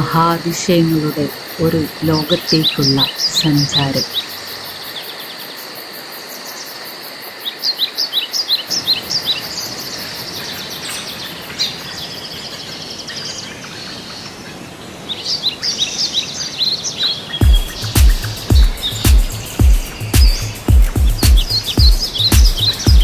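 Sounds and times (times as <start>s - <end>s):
birds chirping: 0.0s - 5.4s, 7.6s - 23.0s
insects droning: 0.0s - 23.0s.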